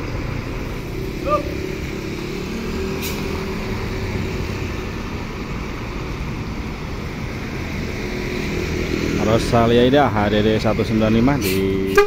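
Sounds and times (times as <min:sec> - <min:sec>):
bus diesel engine low hum: 0:00.0 - 0:12.0
road noise: 0:00.0 - 0:12.0.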